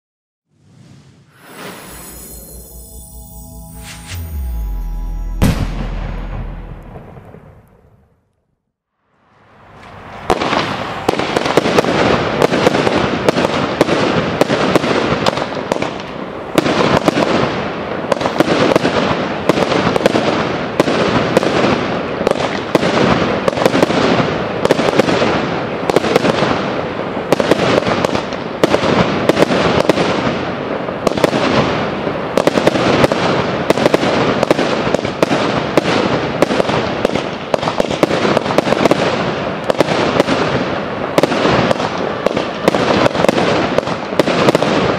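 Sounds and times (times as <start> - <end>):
fireworks bangs and crackling: 0.6 - 3.4, 4.2 - 8.1, 9.3 - 44.9.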